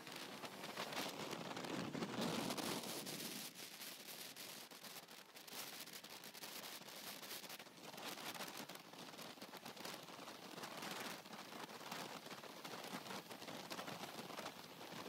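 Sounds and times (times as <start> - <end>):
wind rush over microphone: 0.0 - 15.0.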